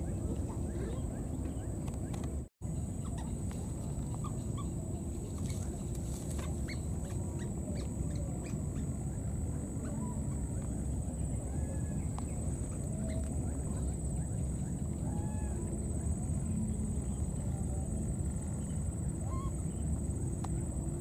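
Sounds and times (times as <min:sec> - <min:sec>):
faint high chirping calls: 0:00.0 - 0:20.4
outdoor background rumble: 0:00.0 - 0:21.0.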